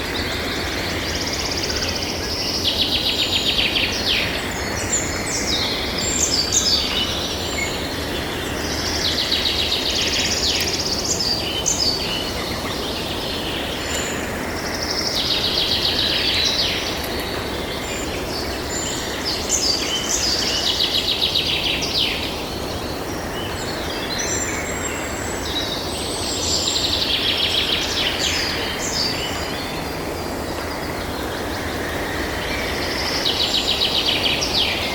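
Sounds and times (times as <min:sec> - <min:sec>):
low outdoor background noise: 0:00.0 - 0:34.9
songbirds chirping and trilling: 0:00.0 - 0:34.9.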